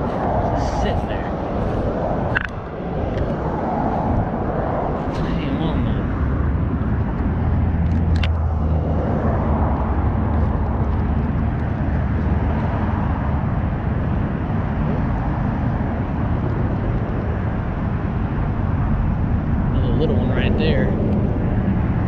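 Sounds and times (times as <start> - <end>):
highway traffic roar: 0.0 - 22.0
low drone: 0.0 - 22.0.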